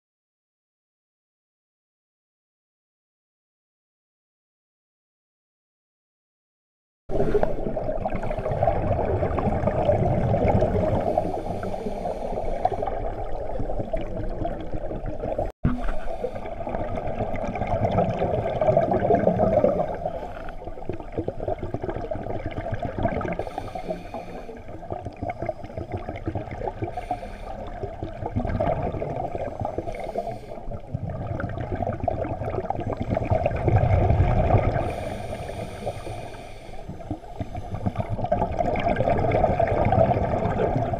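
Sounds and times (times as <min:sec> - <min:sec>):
divers' exhaled bubbles: 0:07.1 - 0:40.9
underwater rushing water: 0:07.1 - 0:40.9.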